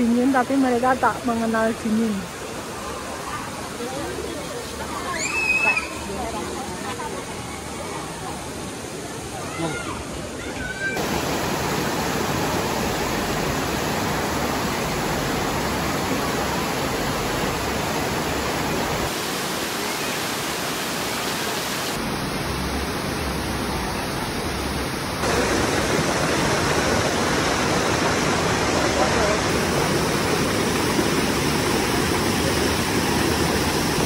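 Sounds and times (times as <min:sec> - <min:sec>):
waterfall rushing over boulders: 0:00.0 - 0:34.0.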